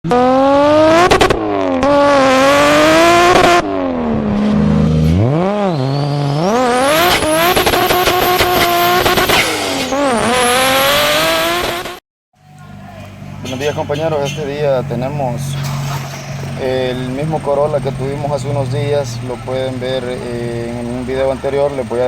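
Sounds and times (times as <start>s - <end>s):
racing car engine revving: 0.0s - 12.0s, 13.0s - 22.0s.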